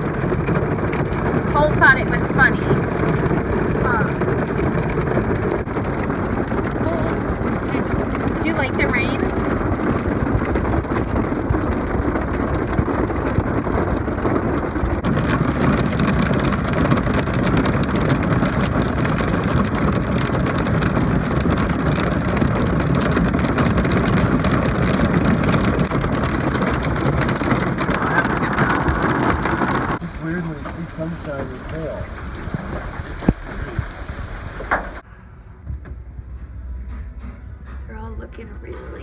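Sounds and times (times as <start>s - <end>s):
heavy rain on car roof: 0.0s - 35.1s.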